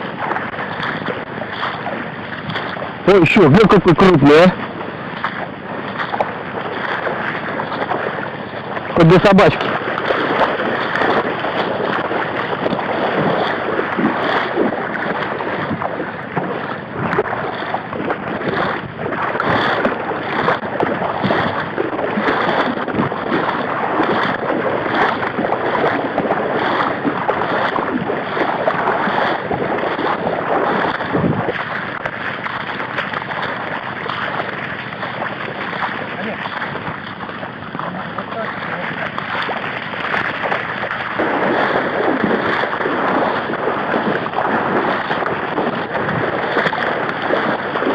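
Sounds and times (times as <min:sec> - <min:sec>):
water sloshing from wading: 0:00.0 - 0:47.9.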